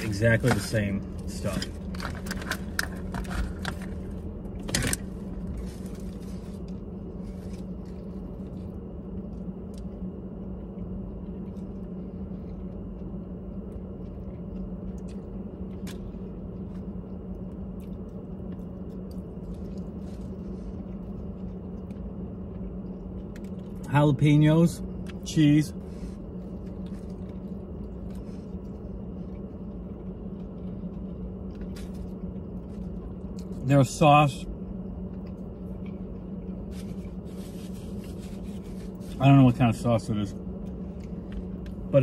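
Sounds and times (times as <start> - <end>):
car interior low hum: 0.0 - 42.0
person chewing: 1.0 - 23.9, 24.9 - 33.6, 34.8 - 39.2, 40.5 - 41.9.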